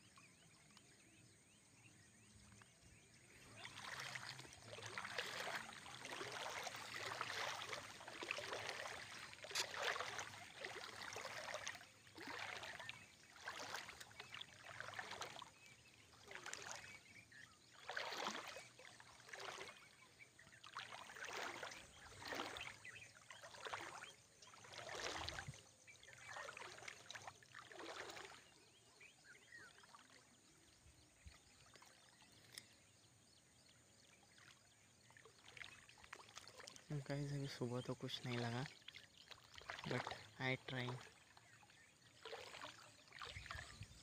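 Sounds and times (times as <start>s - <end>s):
wading through shallow water: 0.0s - 44.0s.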